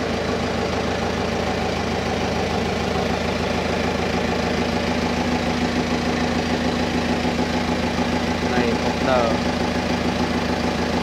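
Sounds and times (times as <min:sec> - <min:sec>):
boat engine running steadily: 0:00.0 - 0:11.0.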